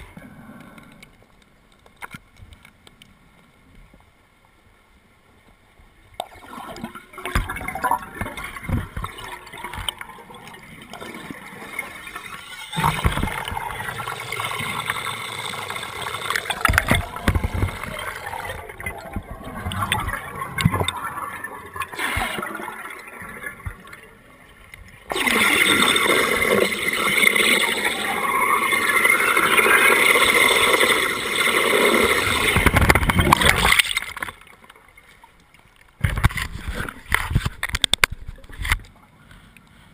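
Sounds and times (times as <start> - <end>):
underwater bubbling: 6.1 - 38.8.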